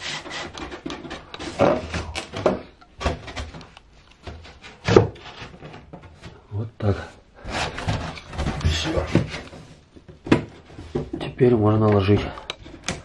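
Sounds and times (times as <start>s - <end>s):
plastic panel knocking and scraping: 0.3s - 6.4s, 7.4s - 13.0s.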